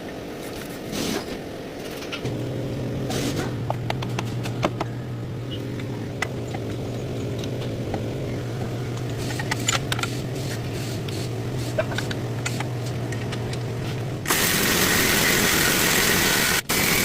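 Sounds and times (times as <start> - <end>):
car engine running: 2.2 - 17.0.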